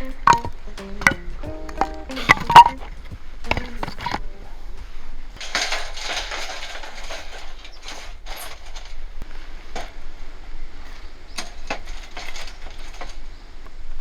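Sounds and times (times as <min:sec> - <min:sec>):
scraping and rustling: 0:00.0 - 0:13.8.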